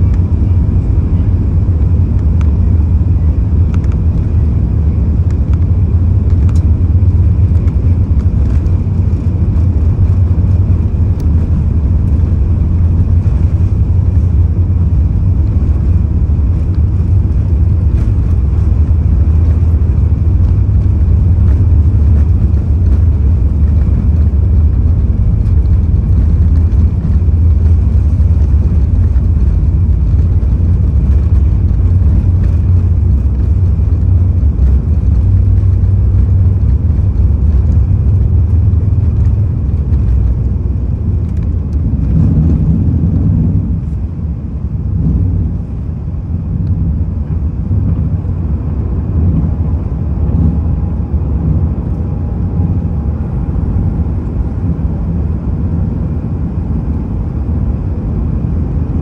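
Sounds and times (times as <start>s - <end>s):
jet engines at takeoff power: 0.0s - 59.0s
runway rumble from wheels: 0.0s - 59.0s.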